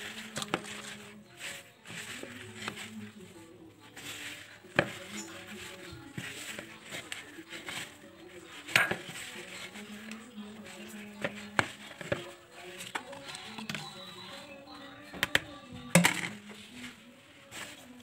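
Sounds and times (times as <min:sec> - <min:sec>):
faint background music: 0:00.0 - 0:18.0
hands kneading dough: 0:00.0 - 0:18.0.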